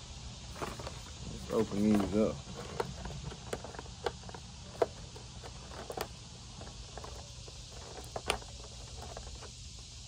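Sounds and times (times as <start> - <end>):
fingers crackling packaging: 0.5 - 10.0.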